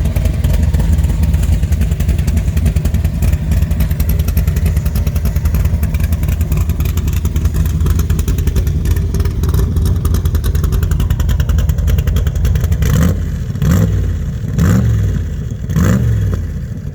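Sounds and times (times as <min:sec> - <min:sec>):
engine idling and revving: 0:00.0 - 0:16.9.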